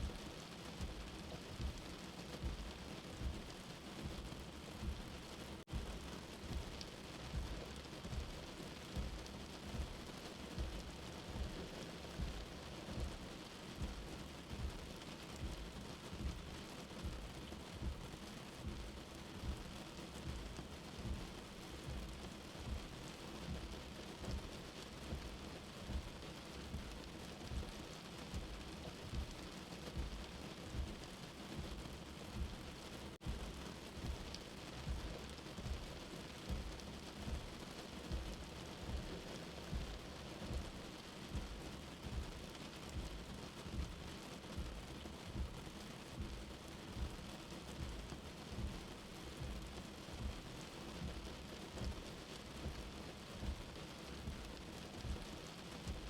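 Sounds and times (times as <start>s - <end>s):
low soft heartbeat thumping: 0.0s - 56.0s
steady rain hiss: 0.0s - 56.0s.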